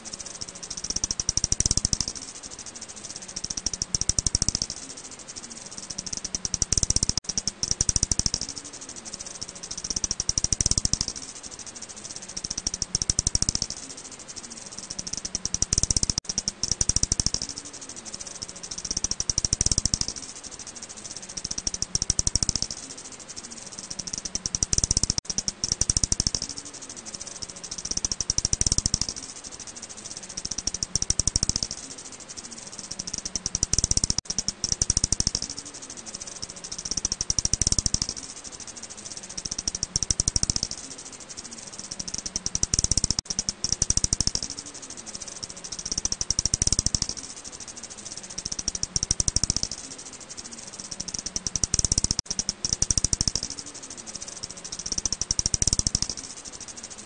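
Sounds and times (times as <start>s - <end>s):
bat echolocation clicks: 0.1s - 57.0s.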